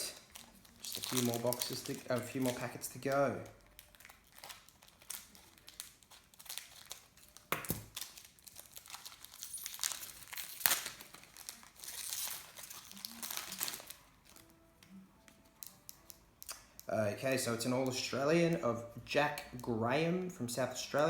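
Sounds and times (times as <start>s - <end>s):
wrapper crinkling: 0.0s - 18.6s
wrapper tearing: 0.0s - 18.6s.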